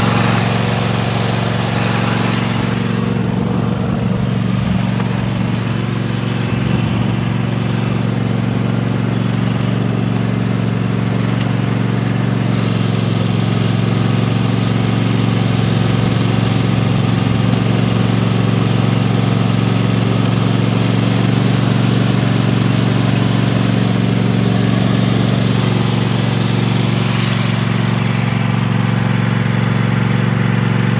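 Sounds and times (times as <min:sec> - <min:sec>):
riding lawn mower engine running: 0:00.0 - 0:30.9.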